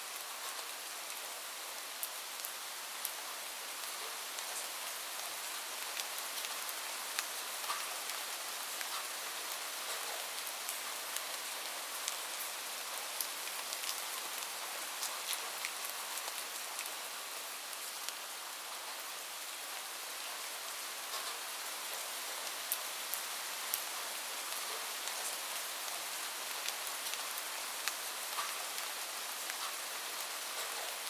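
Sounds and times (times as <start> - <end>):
light rain falling: 0.0 - 31.0
raindrops ticking on a surface: 1.9 - 19.0, 21.0 - 31.0.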